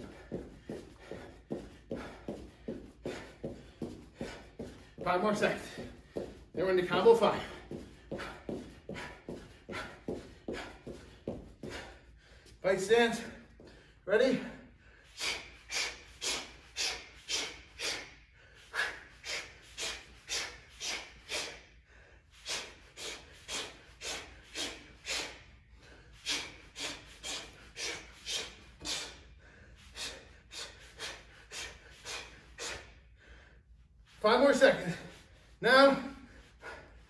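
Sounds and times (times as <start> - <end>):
man's sharp breaths out: 0.0 - 5.0, 7.3 - 12.6, 14.7 - 34.2.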